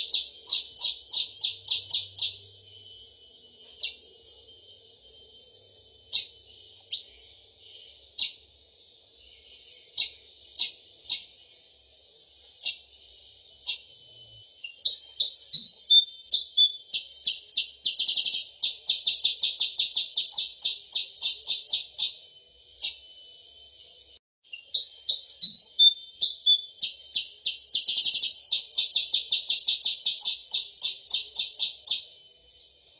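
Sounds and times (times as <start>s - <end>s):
bulbul chirps: 0.0s - 4.2s, 5.7s - 11.8s, 12.4s - 23.2s, 24.5s - 32.2s.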